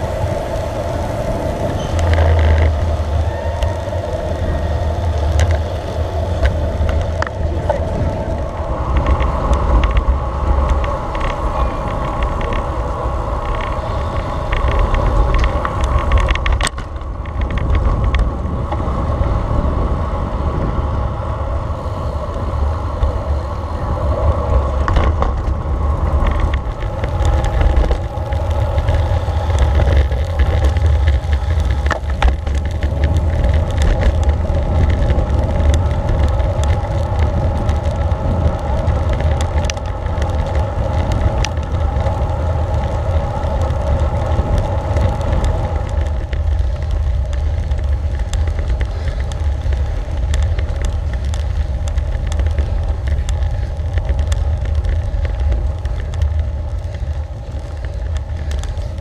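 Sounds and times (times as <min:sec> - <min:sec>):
bicycle tyres rolling: 0:00.0 - 0:59.0
wind buffeting microphone: 0:00.0 - 0:59.0.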